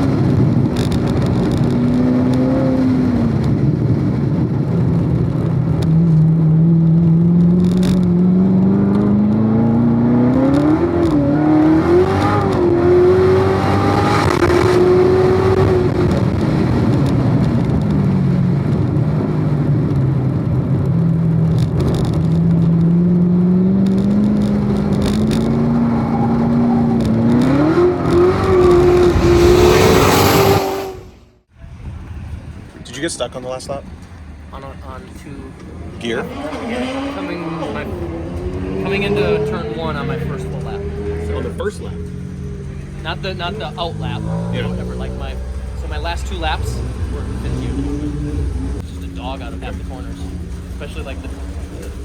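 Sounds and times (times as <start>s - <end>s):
car engine revving: 0.0s - 31.5s, 33.7s - 52.0s.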